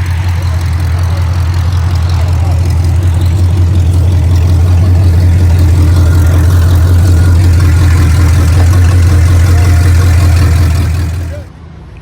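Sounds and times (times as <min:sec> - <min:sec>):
vehicle engine running: 0:00.0 - 0:11.5.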